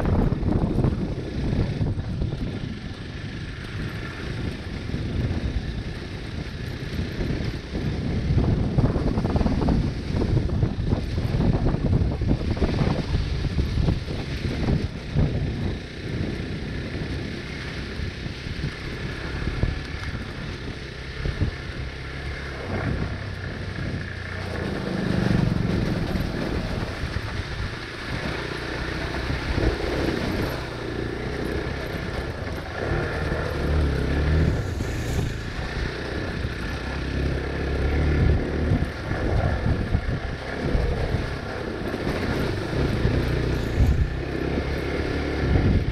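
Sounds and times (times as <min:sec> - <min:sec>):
motorcycle engine revving: 0:00.0 - 0:45.9
rattle of rough trail: 0:00.0 - 0:45.9.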